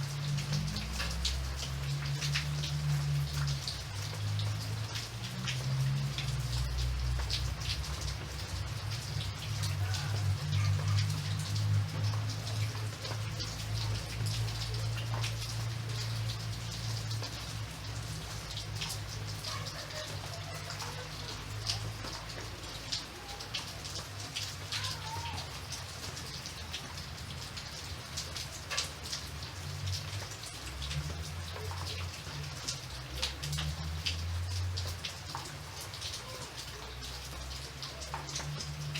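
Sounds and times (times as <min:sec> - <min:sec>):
raindrops hitting a surface: 0:00.0 - 0:38.9
steady rain hiss: 0:00.0 - 0:38.9.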